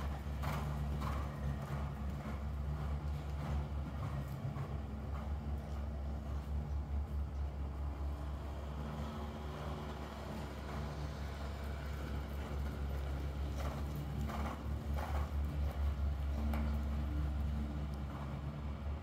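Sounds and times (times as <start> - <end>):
horse hoofbeats on sand: 0.0 - 19.0
low mechanical hum: 0.0 - 19.0.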